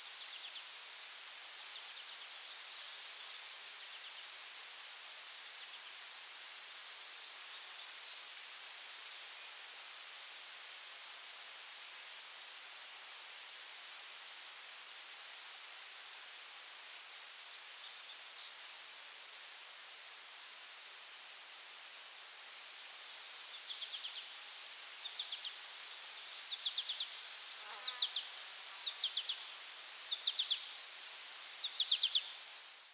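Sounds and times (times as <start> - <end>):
insects droning and chirping: 0.0 - 32.9.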